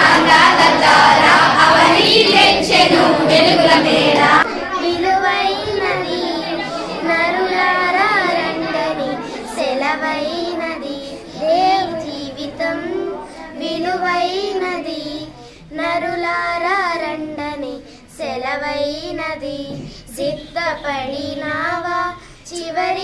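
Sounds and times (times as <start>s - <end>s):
girls singing together: 0.0s - 23.0s.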